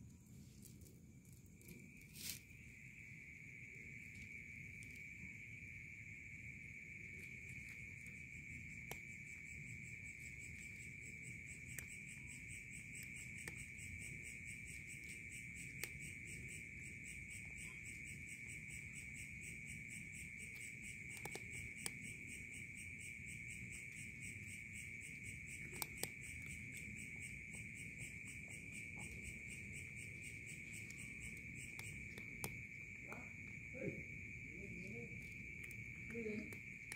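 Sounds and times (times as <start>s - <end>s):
crickets chirring: 0.0s - 36.9s.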